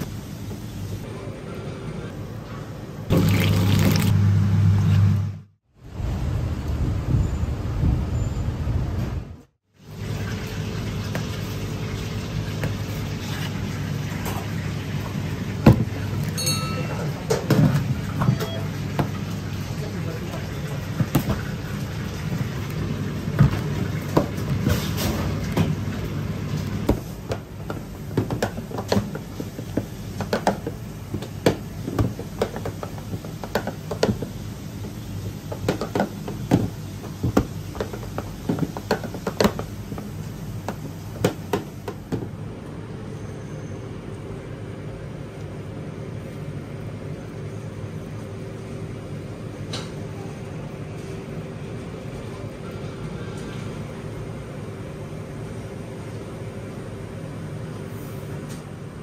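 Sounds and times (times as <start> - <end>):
low kitchen hum: 0.0 - 59.0.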